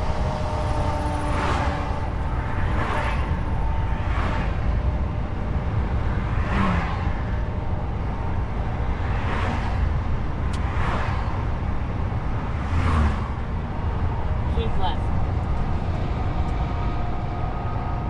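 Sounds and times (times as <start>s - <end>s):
truck engine and tyres rumble: 0.0s - 18.0s.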